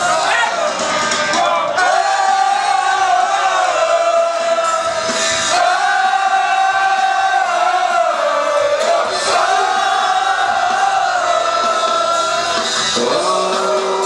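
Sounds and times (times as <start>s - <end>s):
rock band playing live: 0.0s - 1.9s, 4.0s - 14.0s
singer holding long notes: 0.0s - 14.0s.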